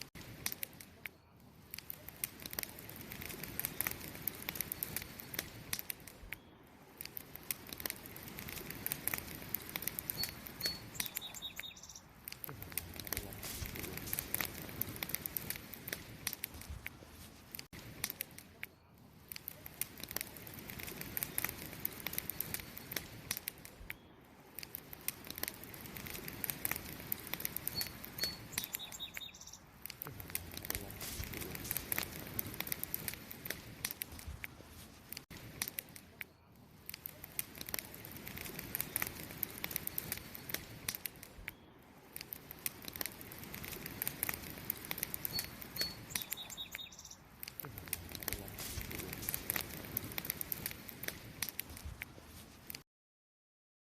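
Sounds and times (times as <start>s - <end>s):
wood fire crackling: 0.0s - 52.8s.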